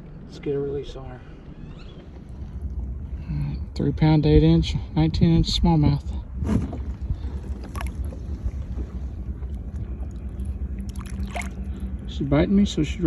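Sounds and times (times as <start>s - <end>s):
wind rumbling on microphone: 1.4s - 13.0s.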